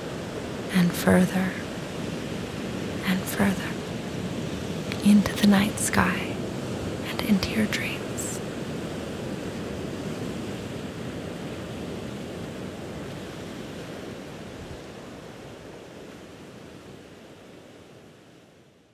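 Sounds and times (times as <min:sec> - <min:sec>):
ocean waves rushing: 0:00.0 - 0:18.1.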